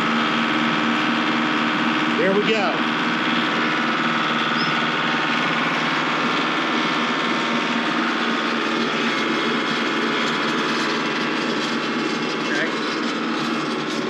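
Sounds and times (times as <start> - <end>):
tractor diesel engine running: 0.0 - 14.0
wood chipper spinning: 0.0 - 14.0.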